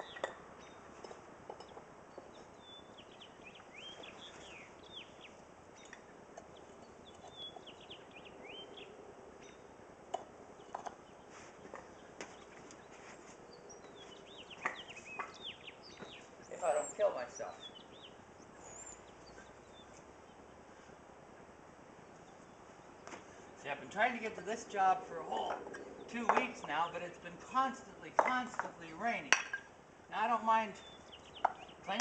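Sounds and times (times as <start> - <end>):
faint outdoor hiss: 0.0 - 32.0
small birds chirping: 0.0 - 32.0.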